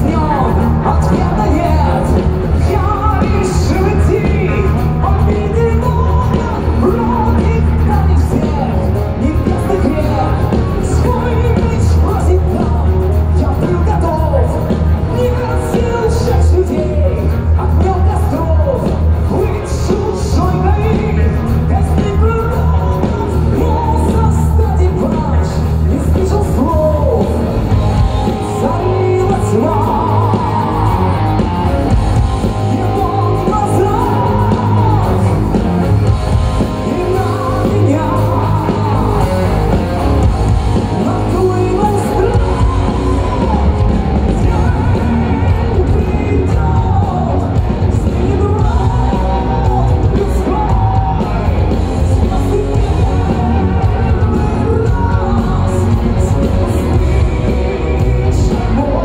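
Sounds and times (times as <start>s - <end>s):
heavy metal band playing live: 0.0s - 59.0s.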